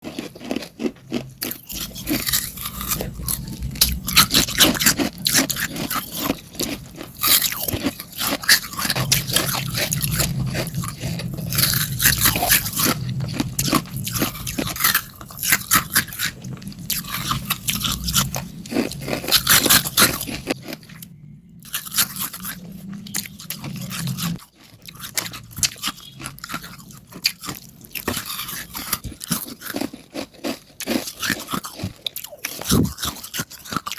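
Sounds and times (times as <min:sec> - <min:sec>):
ice crunching while chewed: 0:00.0 - 0:33.9.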